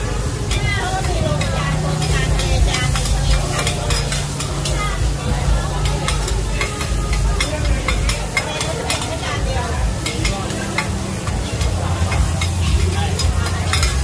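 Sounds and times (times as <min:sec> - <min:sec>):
pancakes sizzling on griddle: 0:00.0 - 0:14.0
metal spatula clinking on pan: 0:00.5 - 0:05.1, 0:05.7 - 0:14.0.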